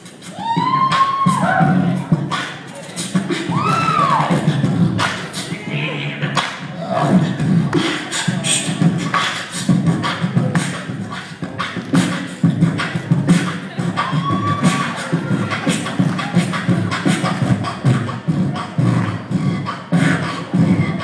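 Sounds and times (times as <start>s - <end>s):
person beatboxing into microphone: 0.0s - 21.0s.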